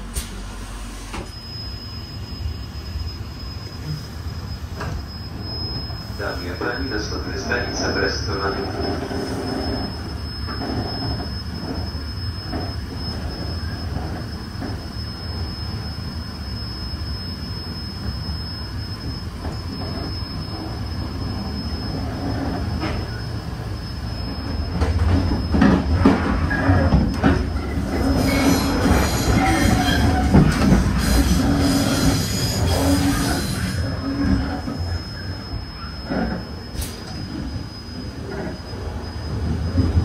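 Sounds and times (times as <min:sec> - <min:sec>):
train rolling on rails: 0:00.0 - 0:40.0
train wheels squealing: 0:00.2 - 0:40.0.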